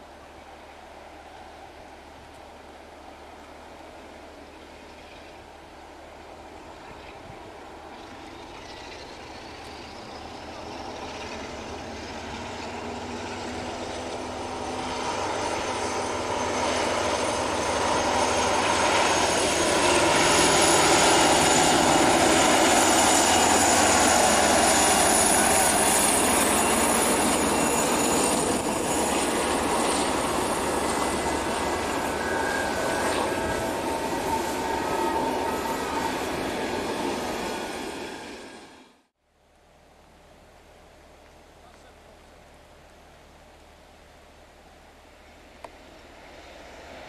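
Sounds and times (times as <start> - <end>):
diesel locomotive passing: 0.0 - 39.1, 39.7 - 47.0.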